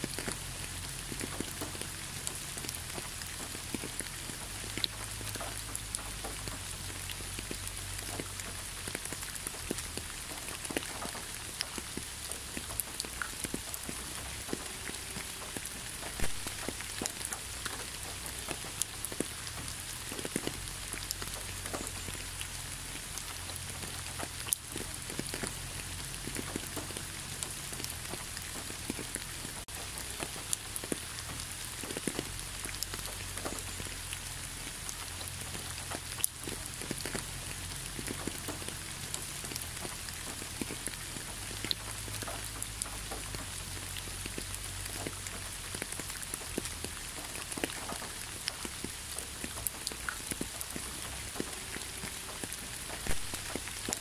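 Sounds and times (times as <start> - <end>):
rain falling: 0.0 - 54.0
raindrops clicking: 0.0 - 54.0.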